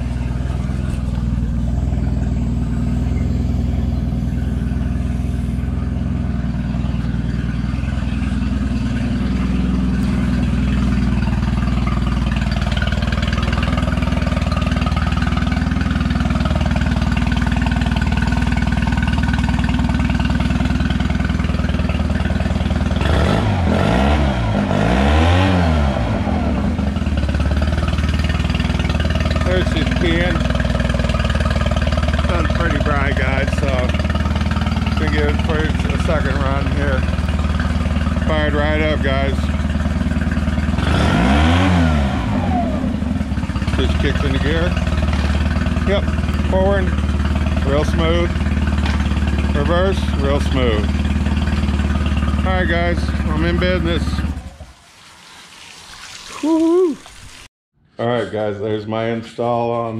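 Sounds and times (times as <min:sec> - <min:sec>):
outboard motor idling: 0:00.0 - 0:55.4
outboard motor revving: 0:00.0 - 0:57.4.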